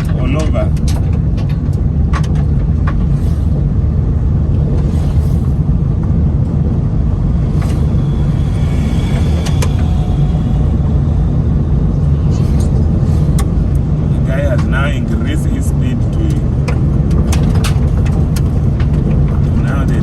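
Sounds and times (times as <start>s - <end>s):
car driving rumble inside cabin: 0.0s - 20.0s.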